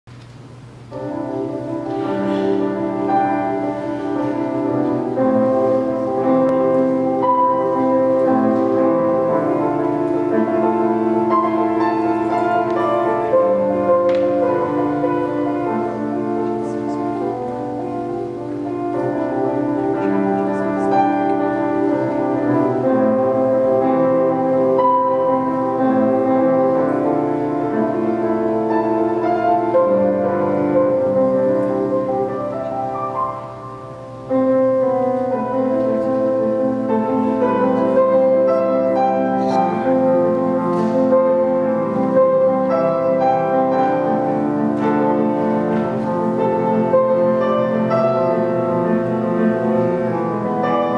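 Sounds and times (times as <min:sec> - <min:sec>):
solo grand piano: 0:00.0 - 0:50.9.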